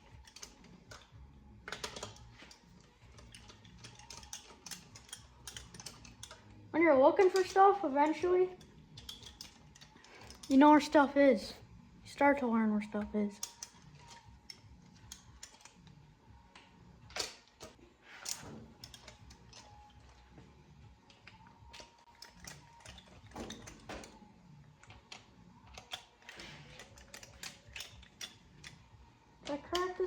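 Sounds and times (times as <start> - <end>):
hand tools clicking on metal: 0.0 - 11.0, 13.0 - 20.4, 21.0 - 30.0.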